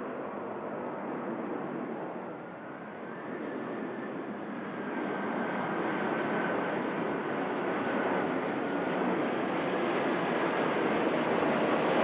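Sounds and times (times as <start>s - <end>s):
faint high engine whine: 0.0s - 12.0s
jet airliner passing overhead: 0.0s - 12.0s.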